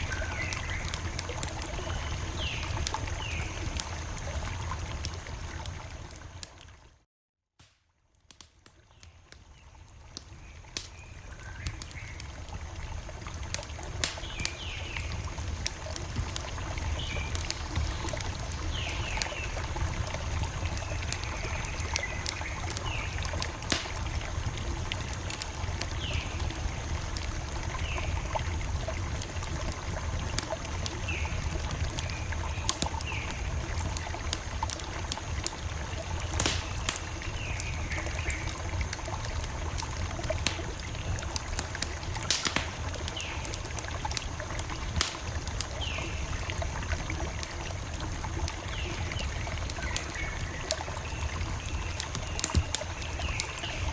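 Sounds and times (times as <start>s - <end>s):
campfire crackling: 0.0s - 6.9s, 7.6s - 53.9s.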